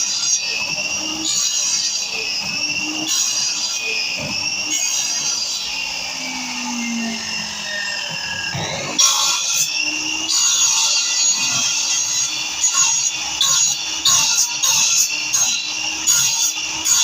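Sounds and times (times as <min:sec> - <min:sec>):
mitre saw cutting wood: 0:00.0 - 0:17.0.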